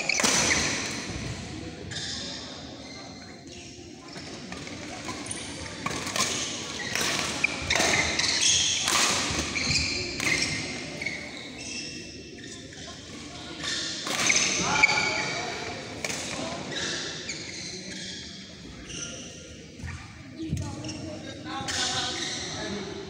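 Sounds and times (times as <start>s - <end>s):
shoes squeaking on court: 1.9s - 3.3s, 4.1s - 15.0s, 16.6s - 22.8s.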